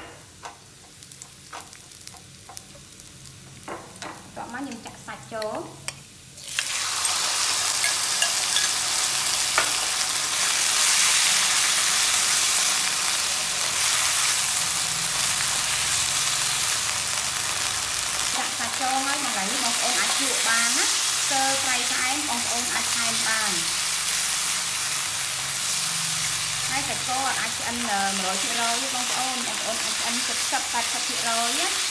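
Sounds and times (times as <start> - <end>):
meat sizzling in a wok: 0.3 - 31.9.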